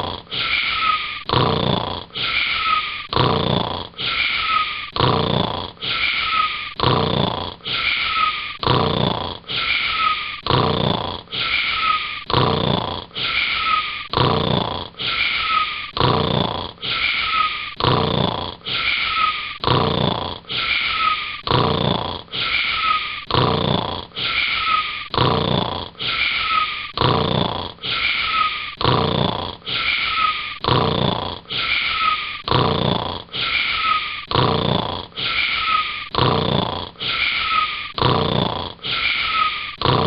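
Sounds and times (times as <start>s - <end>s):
cartoon snoring: 0.0s - 40.0s.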